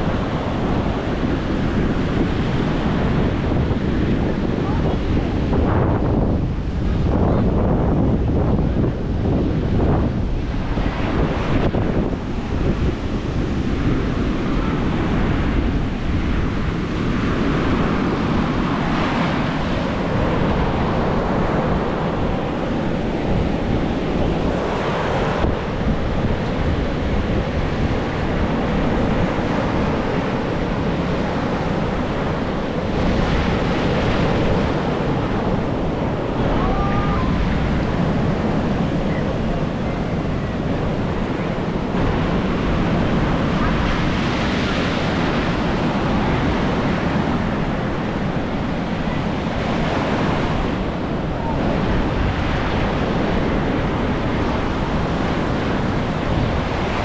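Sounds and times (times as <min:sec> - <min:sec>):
ocean surf washing onto beach: 0:00.0 - 0:57.0
wind buffeting microphone: 0:00.0 - 0:57.0.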